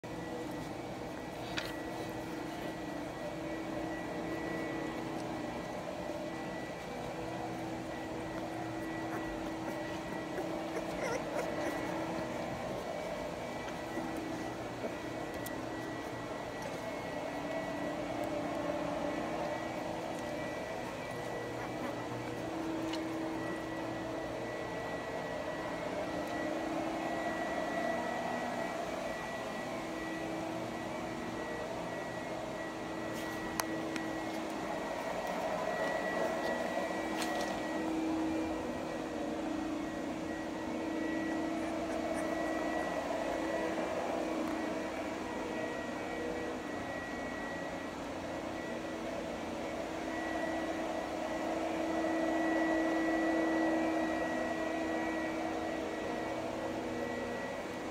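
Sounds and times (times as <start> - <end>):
mechanical hum with high whine: 0.0 - 57.9.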